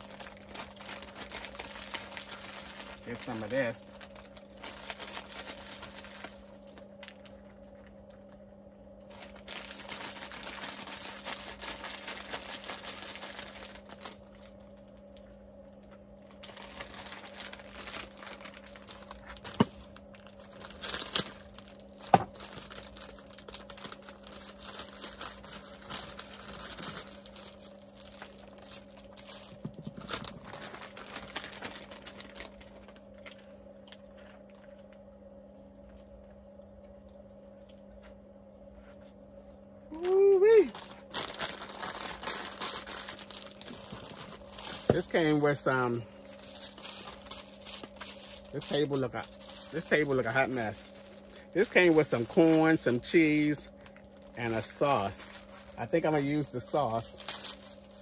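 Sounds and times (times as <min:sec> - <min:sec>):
plastic bag crinkling: 0:00.0 - 0:07.7, 0:09.0 - 0:33.5, 0:39.9 - 0:58.0
low hum: 0:00.0 - 0:58.0.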